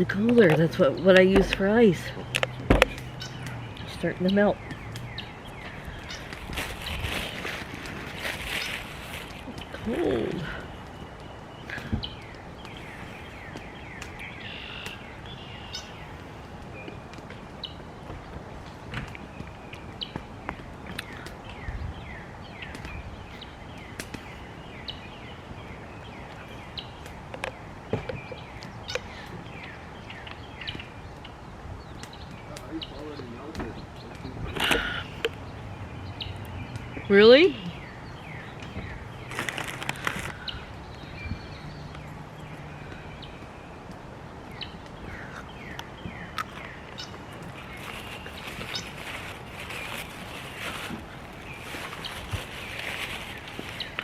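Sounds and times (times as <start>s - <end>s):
flock of birds chirping: 0.0s - 54.0s
steady background noise: 0.0s - 54.0s.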